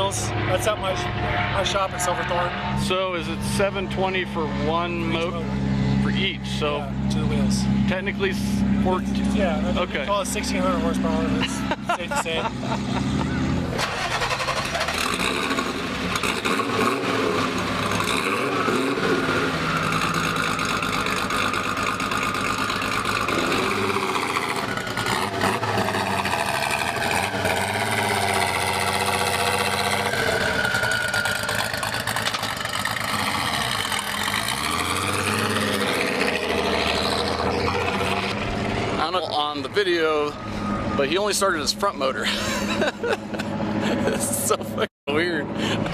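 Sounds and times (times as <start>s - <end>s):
car engine revving: 0.0s - 44.6s.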